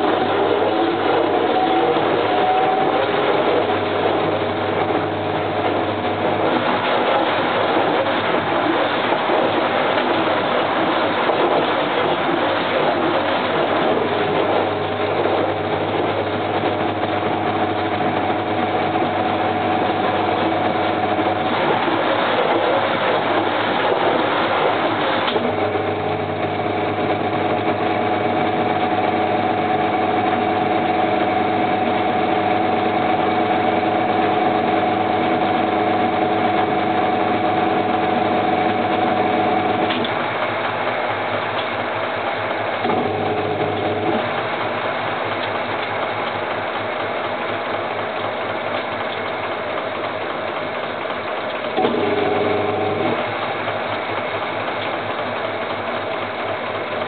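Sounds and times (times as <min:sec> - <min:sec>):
washing machine motor humming: 0:00.0 - 0:57.0.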